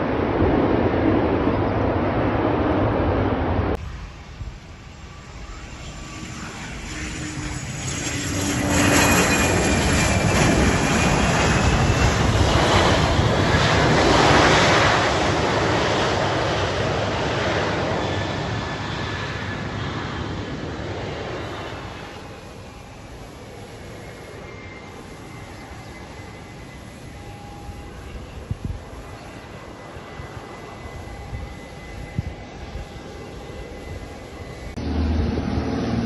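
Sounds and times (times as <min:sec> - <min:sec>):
aircraft rumble: 0:00.0 - 0:36.0
high engine whine: 0:00.0 - 0:36.0
jet engines roaring: 0:00.0 - 0:36.0.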